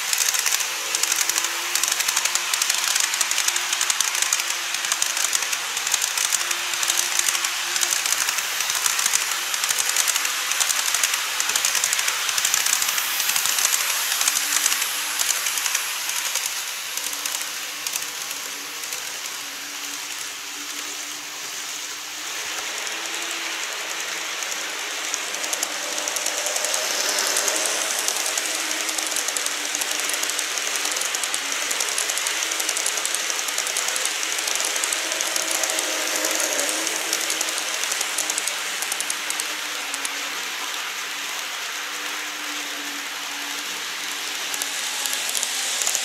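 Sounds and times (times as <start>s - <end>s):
model train wheels rattling on rails: 0.0s - 46.0s.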